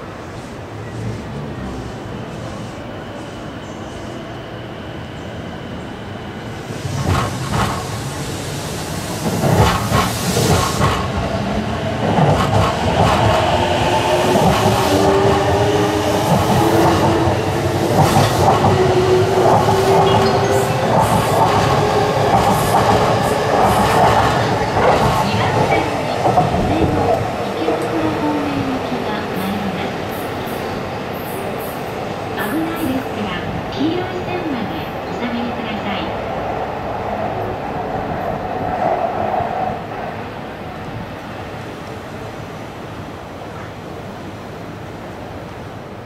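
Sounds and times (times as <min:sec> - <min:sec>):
electric train accelerating: 0:00.4 - 0:42.8.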